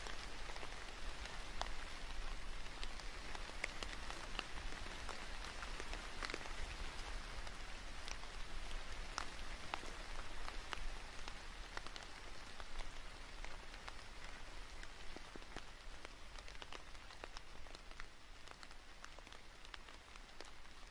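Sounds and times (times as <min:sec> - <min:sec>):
rain on leaves: 0:00.0 - 0:20.9.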